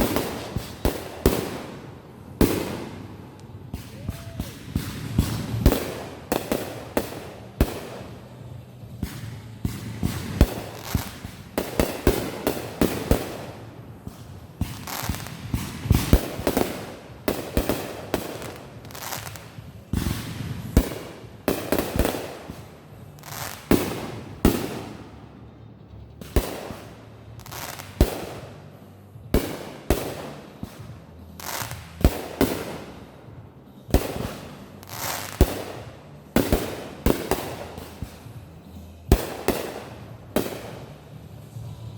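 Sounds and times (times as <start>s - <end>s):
fireworks bangs: 0.0s - 41.7s
fireworks crackling: 0.0s - 41.9s.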